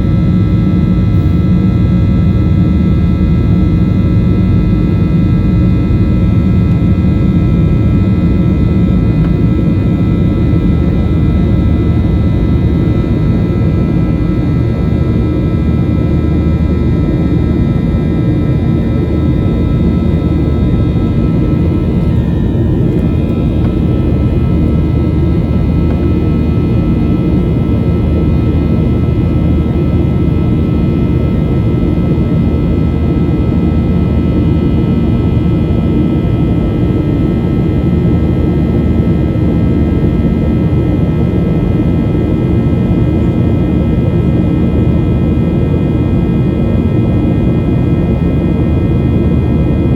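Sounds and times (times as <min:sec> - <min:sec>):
jet engine drone: 0:00.0 - 0:49.9.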